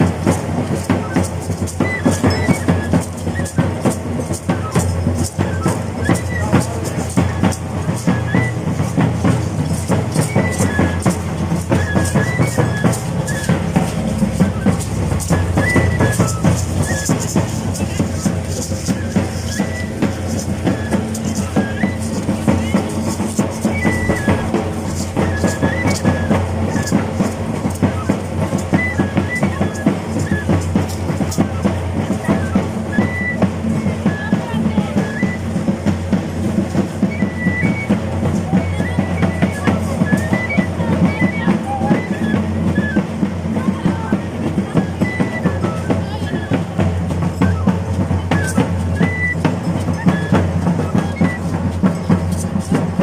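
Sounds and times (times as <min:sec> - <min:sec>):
cane flute phrases: 0:00.0 - 0:52.8
rapid drum beat: 0:00.0 - 0:53.0.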